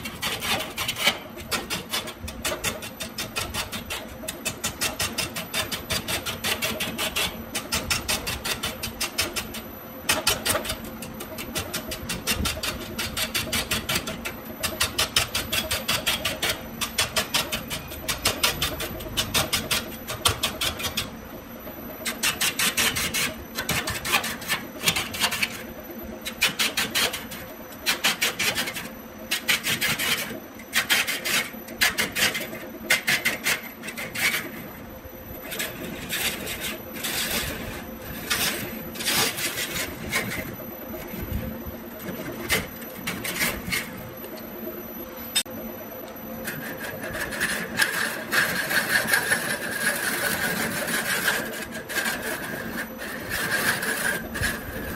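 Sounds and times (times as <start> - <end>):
turning tool scraping wood: 0.0 - 21.1, 22.0 - 34.8, 35.4 - 41.4, 42.0 - 44.0, 46.4 - 54.9.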